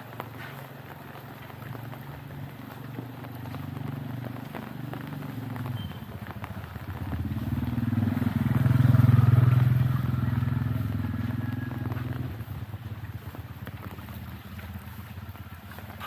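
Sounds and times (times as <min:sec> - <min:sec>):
motorbike engine passing: 0:01.6 - 0:16.0.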